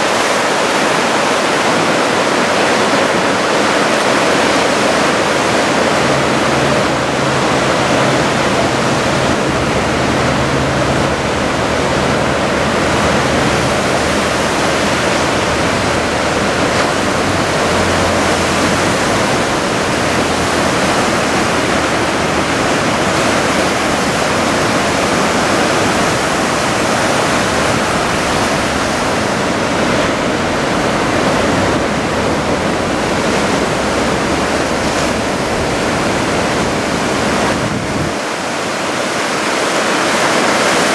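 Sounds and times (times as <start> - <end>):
heavy surf breaking: 0.0 - 40.9.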